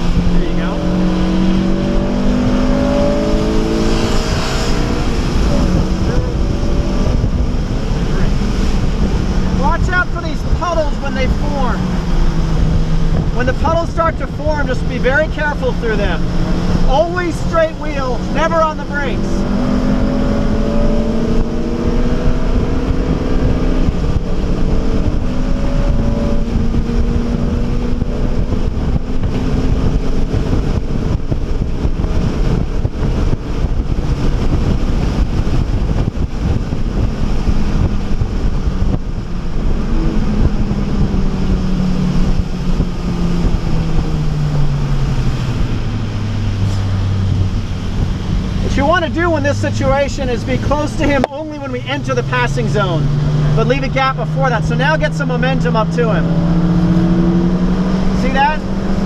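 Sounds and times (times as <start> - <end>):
car engine at high revs: 0.0 - 59.0
road and wind noise: 0.0 - 59.0.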